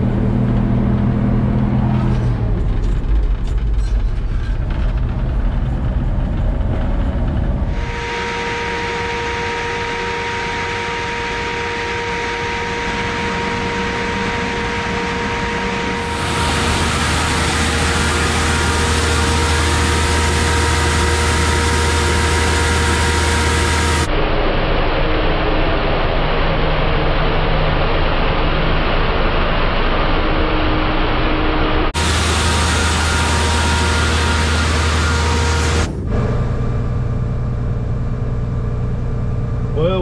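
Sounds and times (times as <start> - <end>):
combine harvester engine drone: 0.0 - 40.0
high whine: 0.0 - 40.0.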